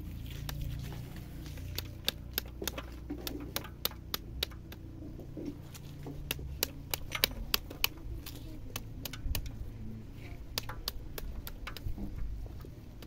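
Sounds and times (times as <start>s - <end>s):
stick knocking pomegranate: 1.5s - 9.7s, 10.4s - 13.0s.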